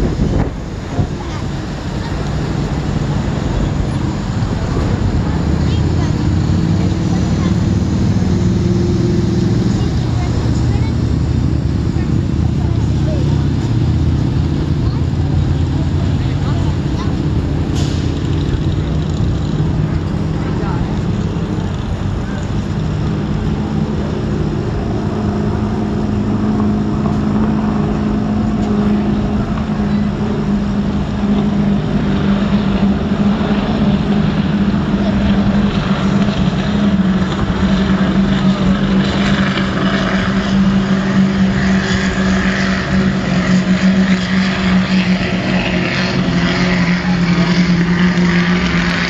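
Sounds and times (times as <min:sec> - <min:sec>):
engine drone: 0:00.0 - 0:49.0.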